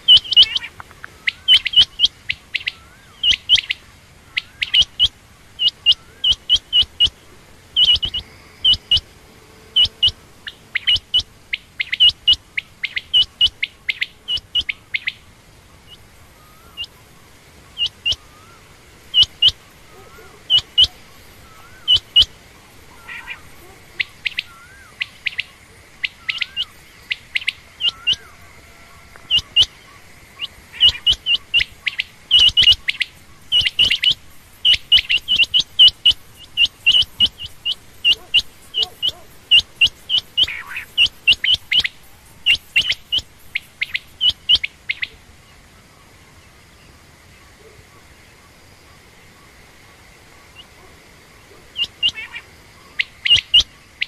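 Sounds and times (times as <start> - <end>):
quail chirping: 0.0 - 9.1, 9.7 - 45.6, 50.1 - 54.0.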